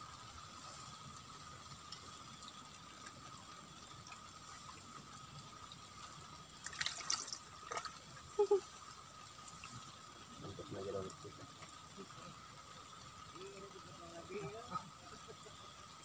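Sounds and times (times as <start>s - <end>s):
faint hiss: 0.0s - 16.0s
water splashing and dripping: 0.0s - 16.0s.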